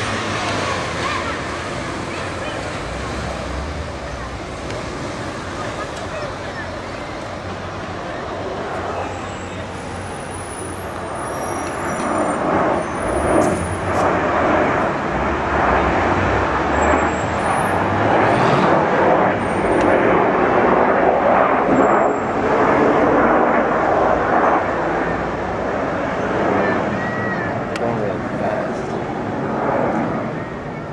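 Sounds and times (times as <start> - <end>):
jets passing overhead: 0.0 - 30.9.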